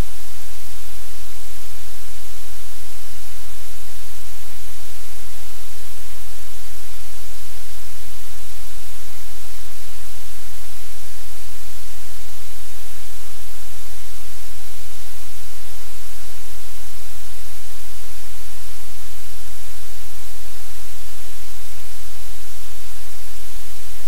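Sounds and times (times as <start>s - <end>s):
static hiss: 0.0s - 24.0s.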